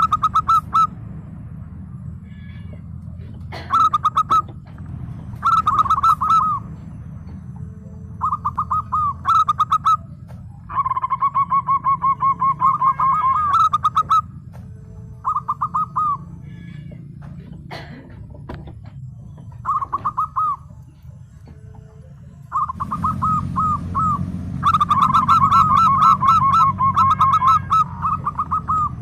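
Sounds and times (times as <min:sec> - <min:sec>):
dove cooing: 0:00.0 - 0:01.0, 0:02.4 - 0:29.0
low hum: 0:00.0 - 0:29.0.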